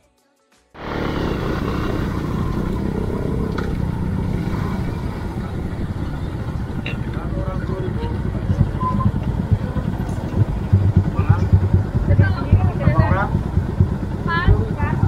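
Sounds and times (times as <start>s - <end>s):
motorcycle engine and road noise: 0.8s - 15.0s.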